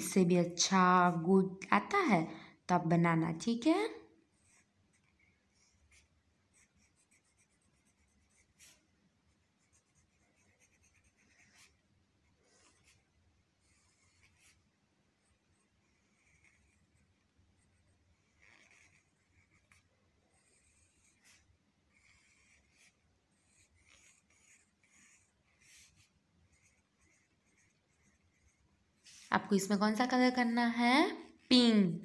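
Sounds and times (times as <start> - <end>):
pencil scratching on paper: 0.0 - 1.9, 4.2 - 31.8.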